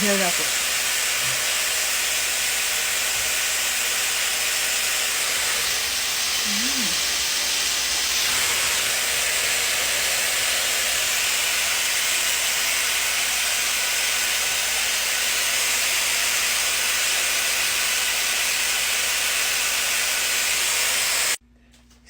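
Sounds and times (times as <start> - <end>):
hair dryer running: 0.0 - 21.4.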